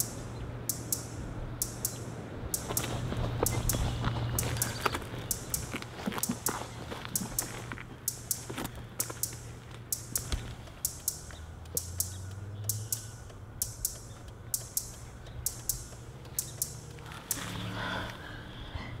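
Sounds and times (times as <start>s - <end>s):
sharp double ticks: 0.0s - 18.0s
low steady hum: 0.0s - 19.0s.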